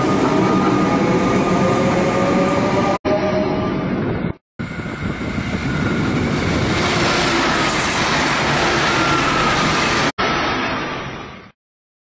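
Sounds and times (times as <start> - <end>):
passenger train rushing past: 0.0 - 11.4.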